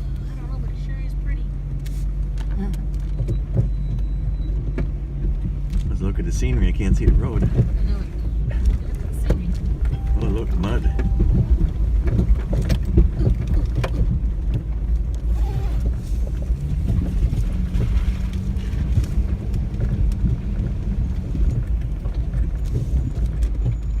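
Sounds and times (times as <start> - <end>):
off-road vehicle engine drone: 0.0 - 24.0
vehicle knocks and rattles: 2.2 - 24.0.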